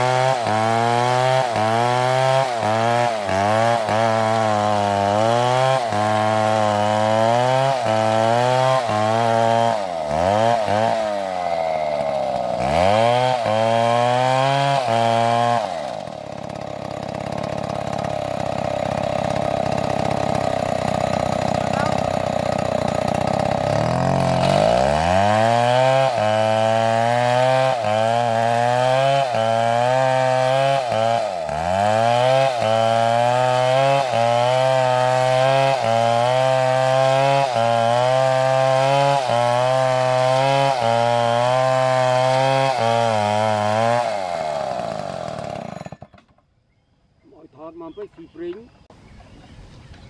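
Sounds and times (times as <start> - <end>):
chainsaw cutting wood: 0.0 - 46.5.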